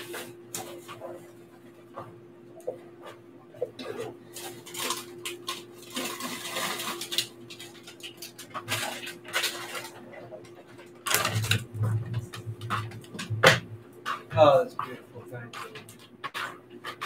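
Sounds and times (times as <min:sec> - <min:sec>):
dough rustling: 0:00.0 - 0:17.0.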